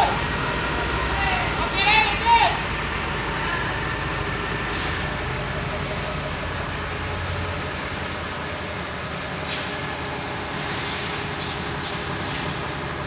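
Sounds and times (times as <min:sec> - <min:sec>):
forklift diesel engine running: 0:00.0 - 0:13.0.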